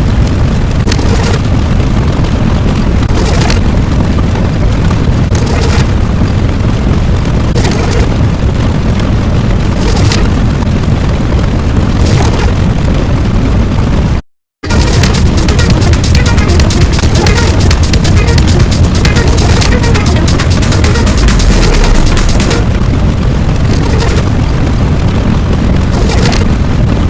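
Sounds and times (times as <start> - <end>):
low rumbling: 0.0 - 27.0.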